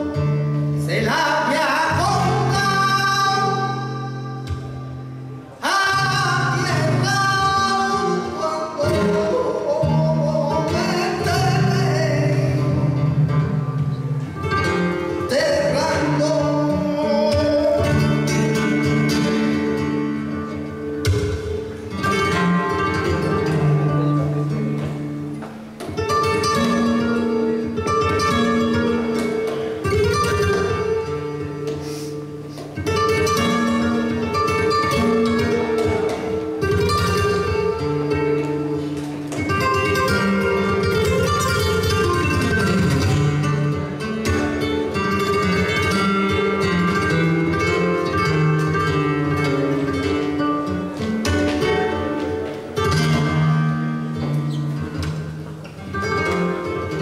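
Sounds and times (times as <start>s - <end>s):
acoustic guitar plucking: 0.0s - 57.0s
man singing flamenco: 0.0s - 57.0s.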